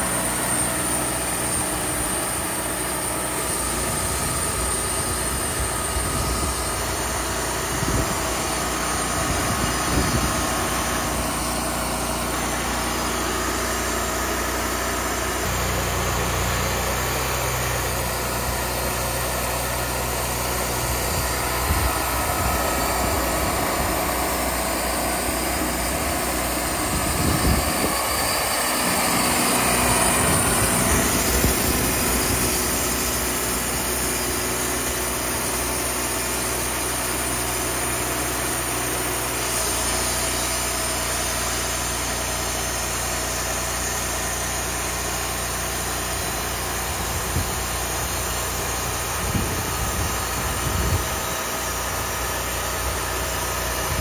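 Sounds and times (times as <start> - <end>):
band sawmill running: 0.0 - 54.0.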